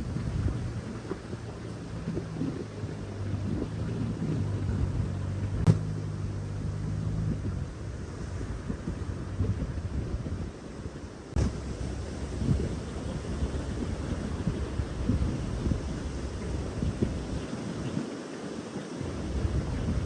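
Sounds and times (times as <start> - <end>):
steady low hum: 0.0 - 18.0, 19.0 - 20.0
wind buffeting microphone: 0.0 - 20.0.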